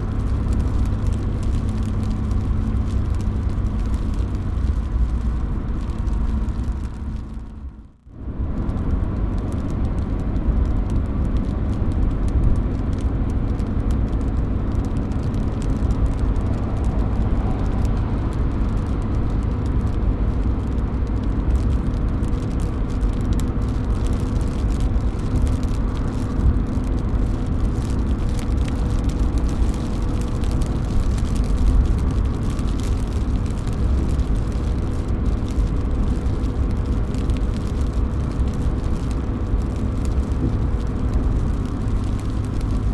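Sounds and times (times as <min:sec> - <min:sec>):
drops dripping from a roof: 0:00.0 - 0:42.9
steady rain: 0:00.0 - 0:42.9.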